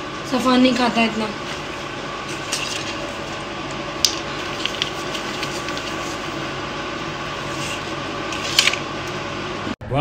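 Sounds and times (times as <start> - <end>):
mechanical room hum: 0.0 - 10.0.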